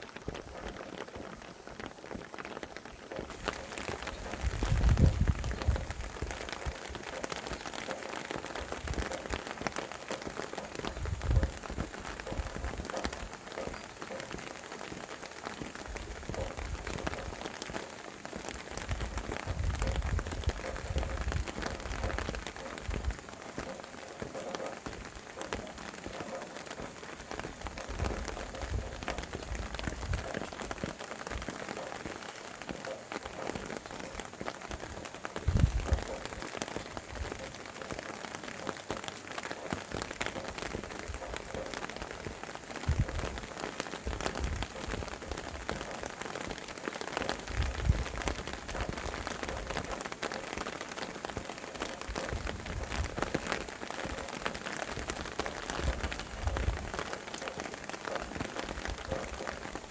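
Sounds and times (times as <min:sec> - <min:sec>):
raindrops pattering: 0:00.0 - 0:59.9
wind rumbling on microphone: 0:00.0 - 0:59.9.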